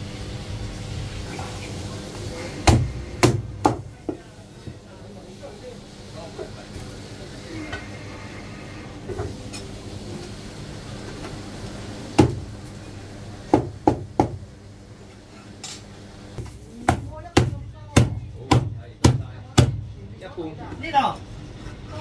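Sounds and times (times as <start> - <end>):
low kitchen hum: 0.0 - 22.0.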